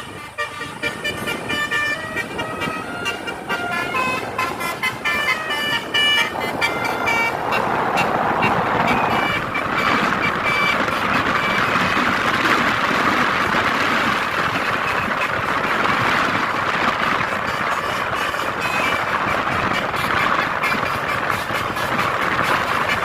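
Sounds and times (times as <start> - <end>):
bus horn playing a melody: 0.0 - 23.0
loud steady rushing noise: 0.0 - 23.0.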